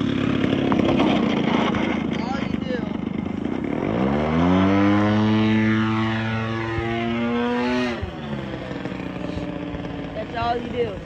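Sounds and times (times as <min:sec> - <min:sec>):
model plane engine droning: 0:00.0 - 0:11.0.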